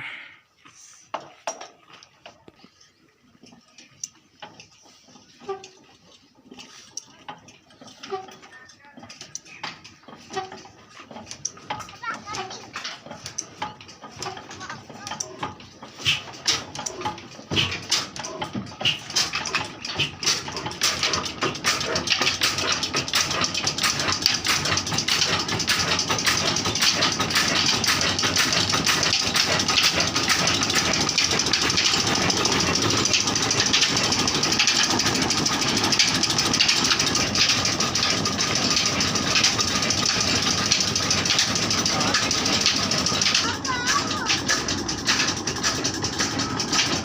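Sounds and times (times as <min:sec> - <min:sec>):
stationary engine starting and running: 0:03.8 - 0:47.0.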